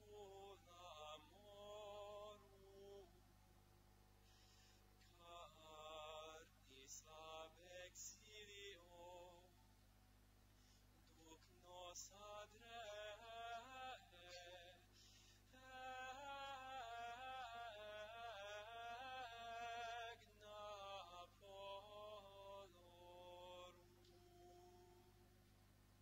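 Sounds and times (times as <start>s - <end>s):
faint liturgical singing: 0.0s - 3.4s, 4.8s - 9.8s, 10.8s - 25.4s.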